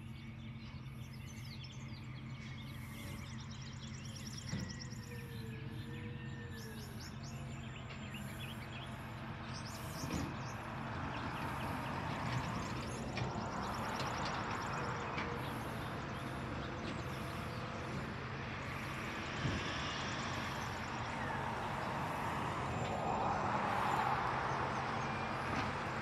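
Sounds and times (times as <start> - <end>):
distant diesel truck engine hum: 0.0 - 26.0
birds chirping: 0.1 - 26.0.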